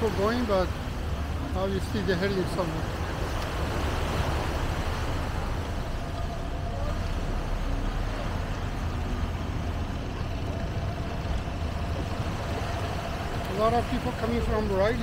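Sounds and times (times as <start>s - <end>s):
engines rumbling: 0.0s - 15.0s.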